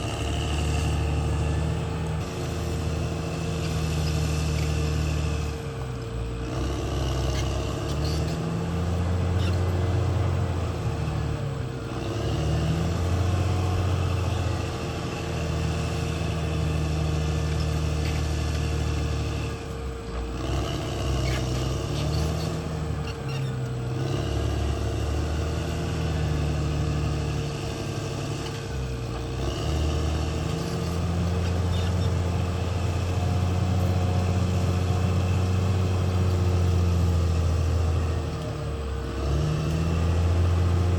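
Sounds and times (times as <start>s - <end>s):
bulldozer diesel engine under load: 0.0s - 40.9s
steady whine: 0.0s - 40.9s.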